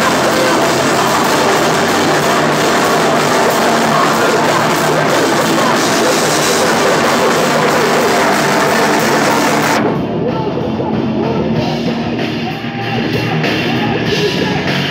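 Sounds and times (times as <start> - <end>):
live rock band playing: 0.0 - 14.9.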